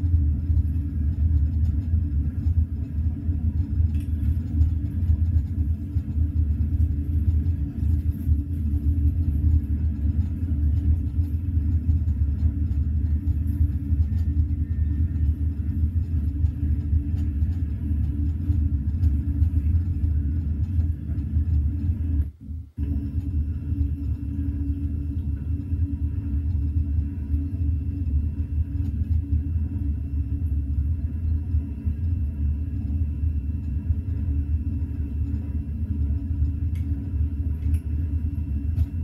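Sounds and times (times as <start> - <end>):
train rumble inside carriage: 0.0 - 39.0.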